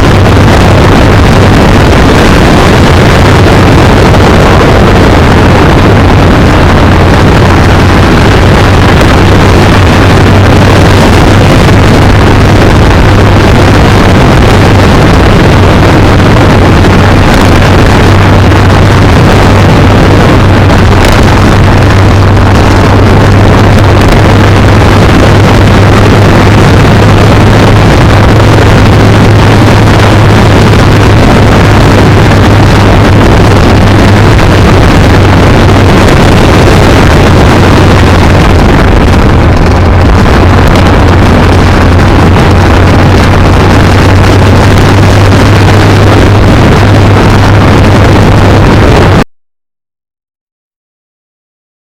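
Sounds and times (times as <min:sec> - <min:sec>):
motorcycle engine running: 0:00.0 - 0:49.3
wind rush over microphone: 0:00.0 - 0:49.3.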